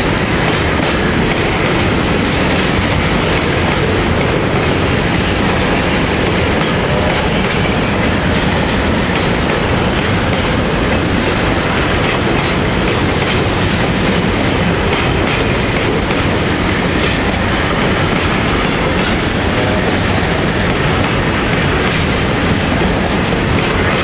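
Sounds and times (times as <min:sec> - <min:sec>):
wheels clicking over rail joints: 0:00.0 - 0:24.0
wheels rumbling on rail: 0:00.0 - 0:24.0.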